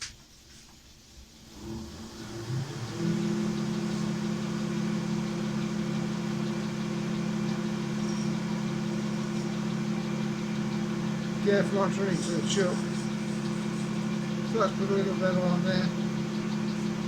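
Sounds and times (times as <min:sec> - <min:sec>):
lathe motor humming: 0:01.4 - 0:17.0.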